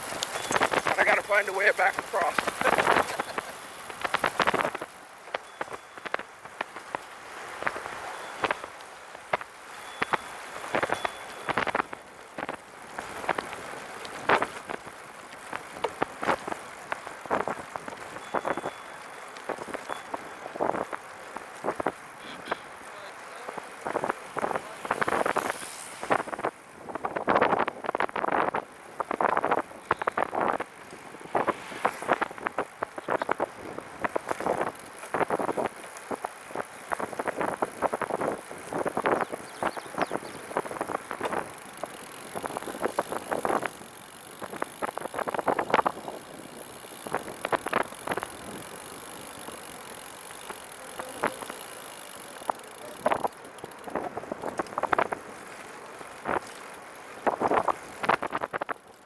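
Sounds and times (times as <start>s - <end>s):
trike rattling: 0.0s - 26.5s, 27.7s - 59.0s
tyre and wind rush: 0.0s - 59.0s.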